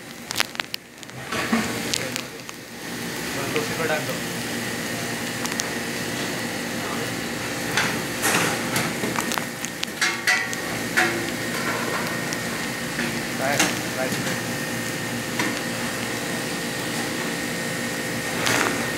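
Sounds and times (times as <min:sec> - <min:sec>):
chicken and onions sizzling in pan: 0:01.1 - 0:18.2.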